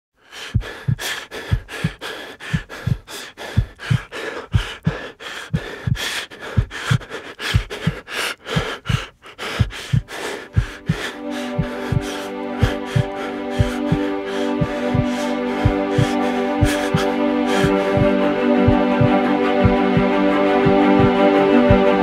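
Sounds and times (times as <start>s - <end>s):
heavy ragged breathing: 0.2s - 22.0s
heartbeat thumps: 0.4s - 22.0s.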